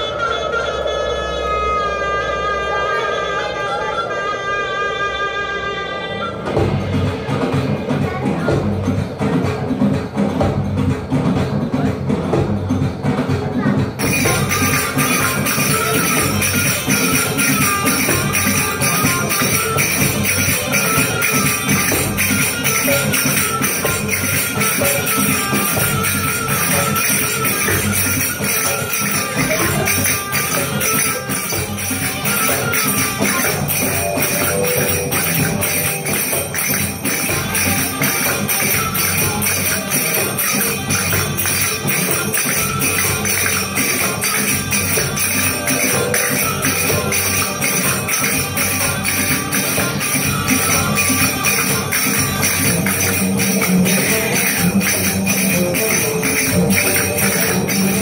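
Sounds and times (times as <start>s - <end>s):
dance music: 0.0s - 58.0s.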